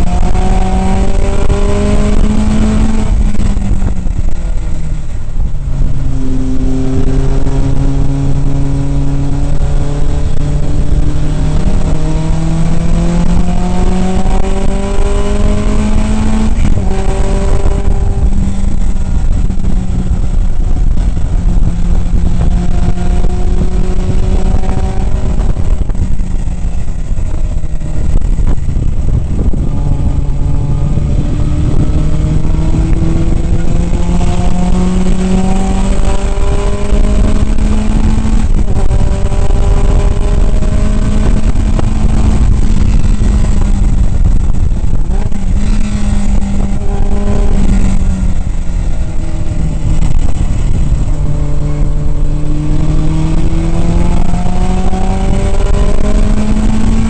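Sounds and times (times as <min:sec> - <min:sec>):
racing car engine: 0:00.0 - 0:57.0
wind and road noise: 0:00.0 - 0:57.0.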